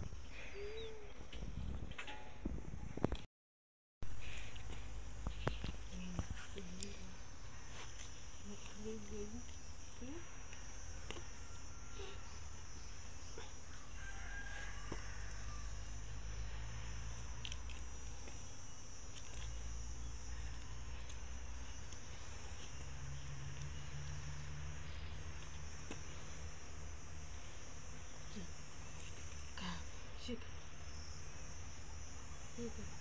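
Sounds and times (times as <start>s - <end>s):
insects chirring: 0.0s - 3.2s, 4.1s - 33.0s.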